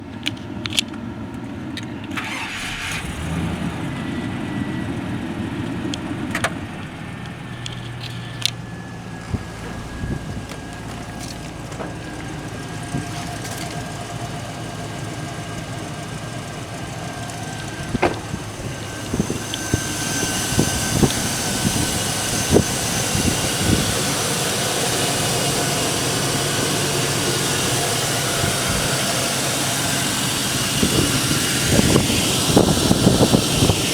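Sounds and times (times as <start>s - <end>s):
truck engine idling: 1.0s - 33.9s.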